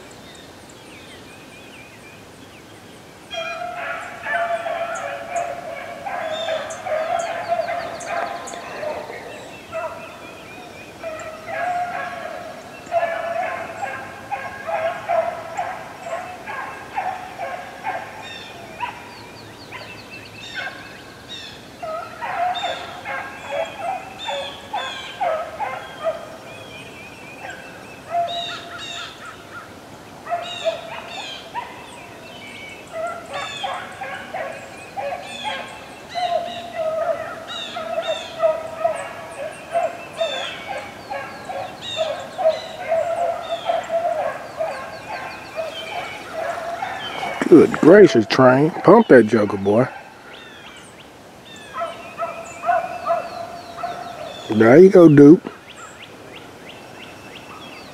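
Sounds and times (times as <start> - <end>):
hounds baying: 3.3 - 50.8, 51.5 - 56.0.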